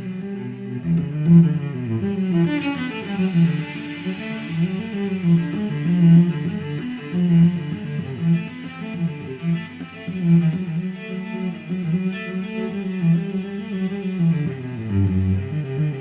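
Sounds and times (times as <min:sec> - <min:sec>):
low strings: 0:00.0 - 0:16.0.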